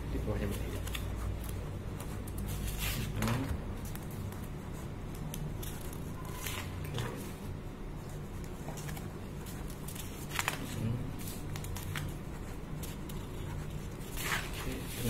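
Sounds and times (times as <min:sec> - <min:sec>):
steady low hum: 0:00.0 - 0:15.0
pen scratching on paper: 0:00.4 - 0:10.3, 0:11.2 - 0:15.0.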